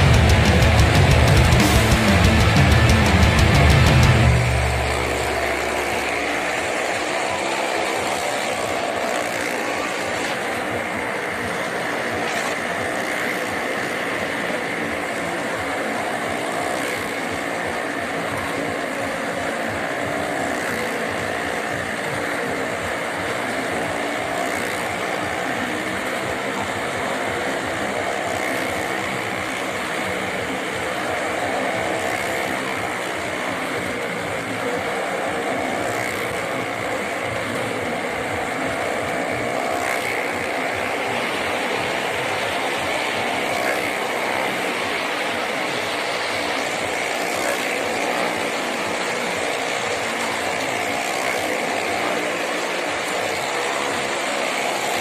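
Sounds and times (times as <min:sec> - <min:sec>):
car and motorcycle engines running: 0:00.0 - 0:55.0.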